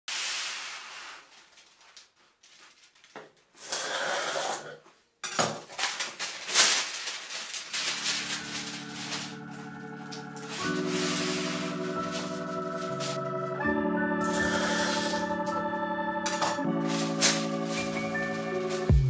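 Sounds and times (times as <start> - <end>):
baking paper rustling and crinkling: 0.1 - 3.7, 5.5 - 13.6, 14.2 - 15.6, 16.3 - 19.0.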